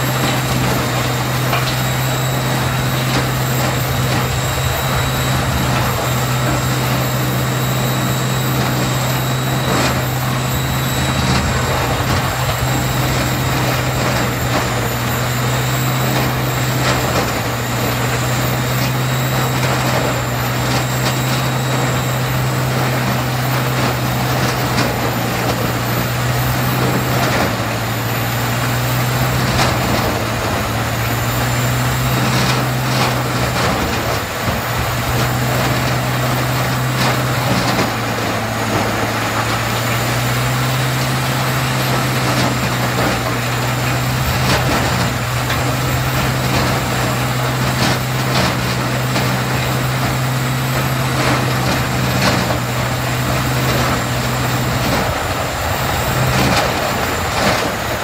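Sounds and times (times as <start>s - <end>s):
wood grinder engine droning: 0.0s - 58.0s.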